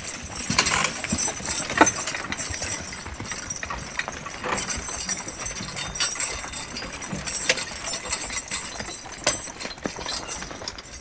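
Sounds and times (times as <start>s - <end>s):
harness knocks and clinks: 0.0s - 11.0s
horse hooves stepping: 0.0s - 11.0s.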